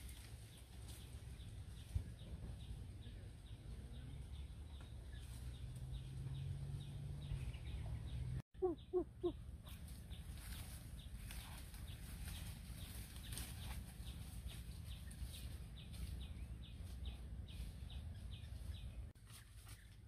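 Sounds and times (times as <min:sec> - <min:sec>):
small bird chirping: 0:00.9 - 0:19.9.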